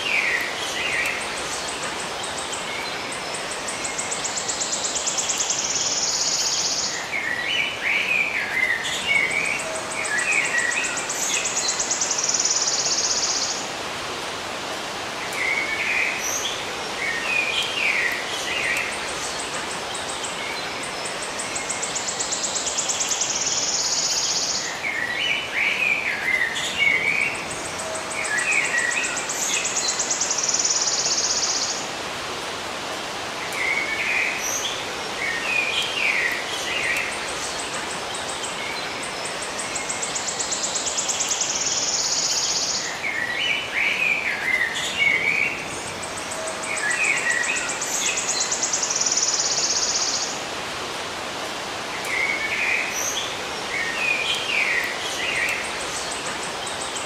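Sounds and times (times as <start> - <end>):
birds singing: 0.0 - 57.0
steady hiss: 0.0 - 57.0.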